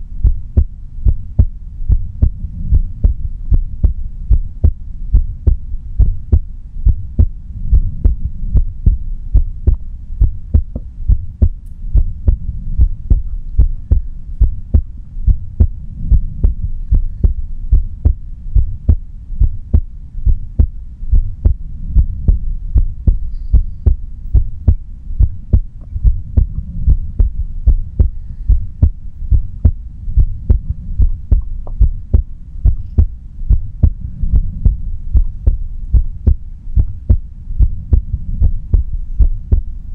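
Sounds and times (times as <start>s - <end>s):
heartbeat thumps: 0.0s - 39.9s
low rumble: 0.0s - 39.9s.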